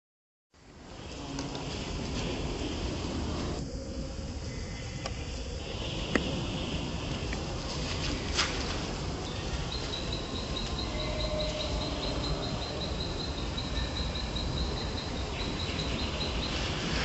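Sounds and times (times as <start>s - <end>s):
insect chirping: 0.6s - 17.0s.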